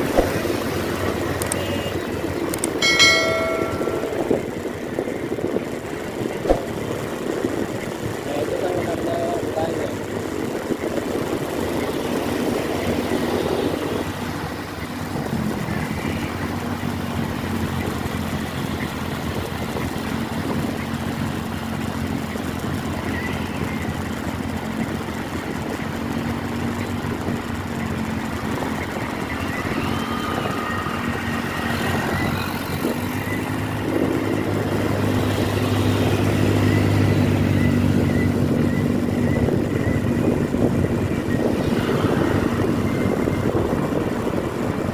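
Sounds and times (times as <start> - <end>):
road noise: 0.0 - 44.9
vehicle engine running: 0.0 - 44.9.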